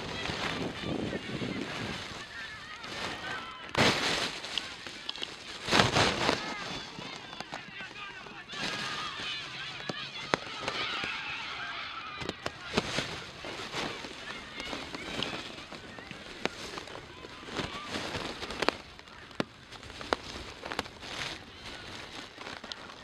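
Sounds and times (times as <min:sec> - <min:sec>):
distant voices: 0:00.0 - 0:23.0.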